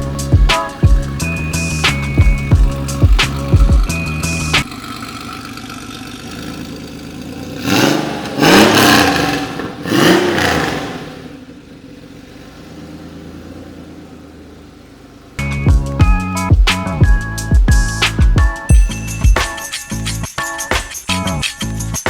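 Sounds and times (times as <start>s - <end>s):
car engine idling and revving: 0.0s - 19.3s.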